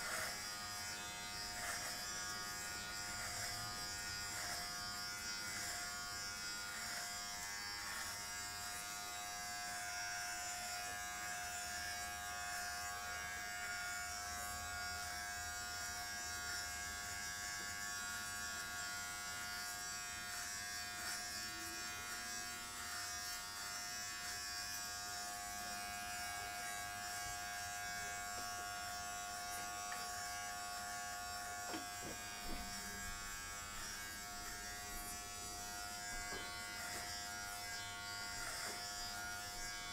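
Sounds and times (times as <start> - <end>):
electric trimmer buzzing: 0.0 - 39.9.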